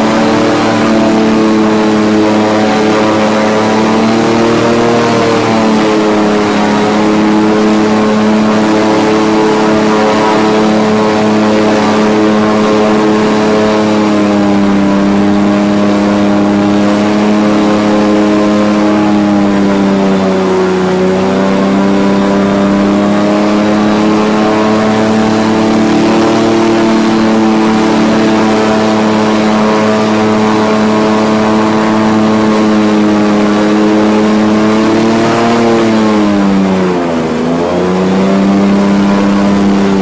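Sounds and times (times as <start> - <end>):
airboat engine and propeller: 0.0 - 40.0.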